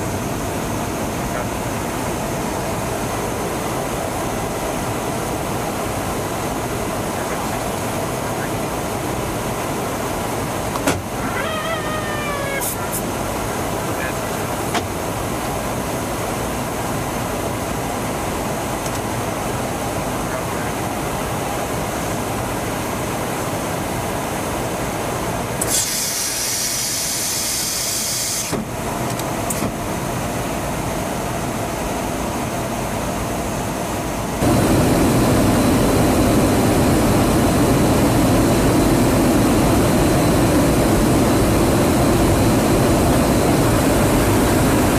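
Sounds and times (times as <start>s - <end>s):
aircraft engine roar: 0.0s - 44.9s.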